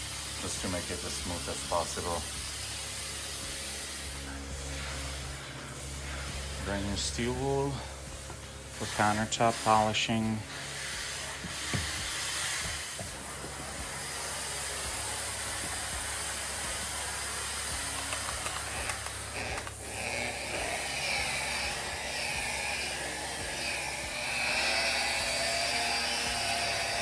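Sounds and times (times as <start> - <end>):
polisher pad hissing on stone: 0.0 - 27.0
wavering motor whine: 0.0 - 27.0.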